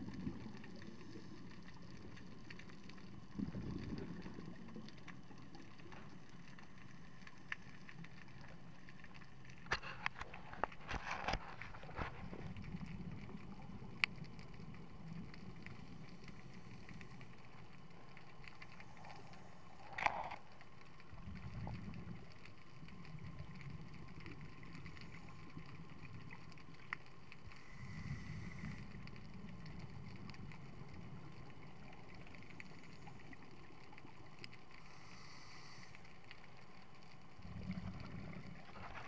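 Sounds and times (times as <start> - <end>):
muffled underwater ambience: 0.0 - 39.0
scuba exhaust bubbles: 0.0 - 39.0.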